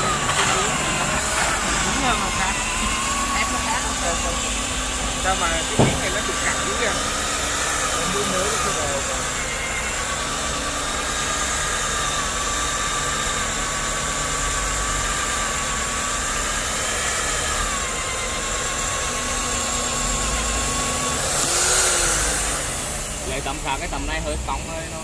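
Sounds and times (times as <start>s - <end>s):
drill motor whining: 0.0s - 25.0s.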